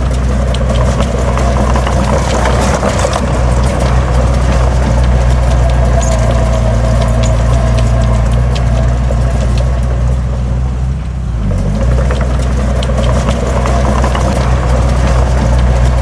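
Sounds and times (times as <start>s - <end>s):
heavy diesel engine running: 0.0s - 16.0s
metallic clanks and rattles: 0.0s - 16.0s.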